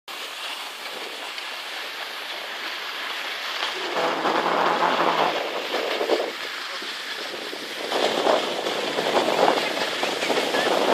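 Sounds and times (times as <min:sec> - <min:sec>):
skis sliding on snow: 0:00.1 - 0:10.9.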